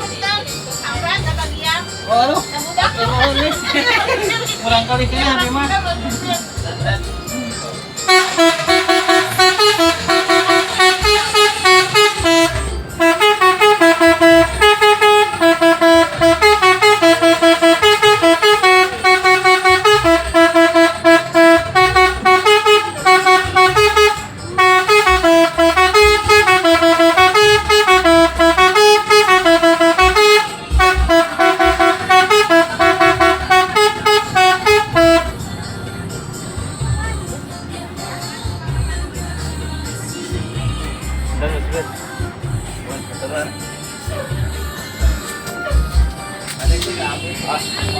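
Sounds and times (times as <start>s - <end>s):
musical bus horn melody: 0.0s - 47.9s.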